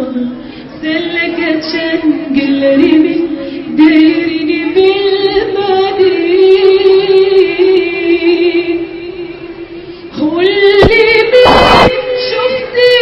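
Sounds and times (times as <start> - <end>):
woman singing: 0.0 - 9.5, 10.1 - 13.0.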